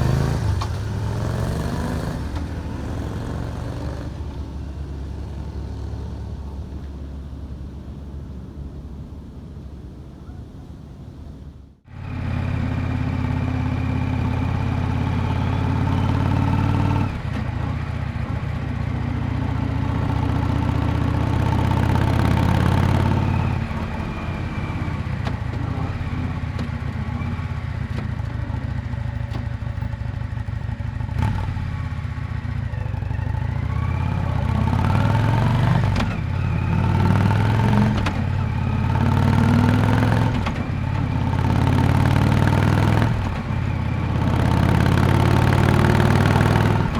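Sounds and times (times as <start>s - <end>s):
motorcycle exhaust while riding: 0.0s - 7.7s, 11.9s - 46.9s.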